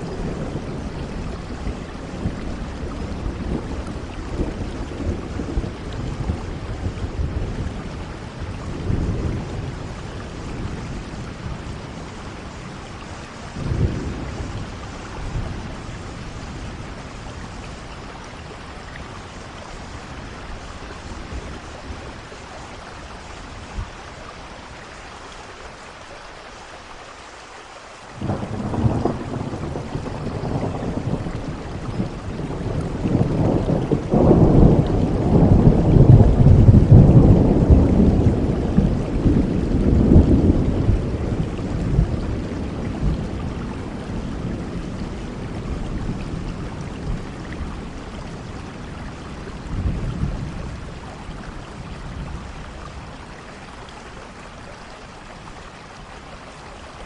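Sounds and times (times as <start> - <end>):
rolling thunder: 0.0 - 24.1, 28.2 - 53.5
steady rain: 0.0 - 57.0.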